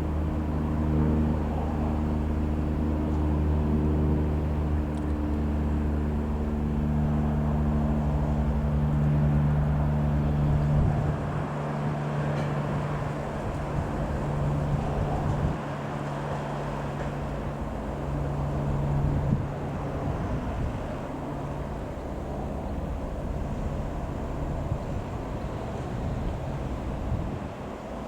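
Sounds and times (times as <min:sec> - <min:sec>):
piston aircraft engine drone: 0:00.0 - 0:28.0.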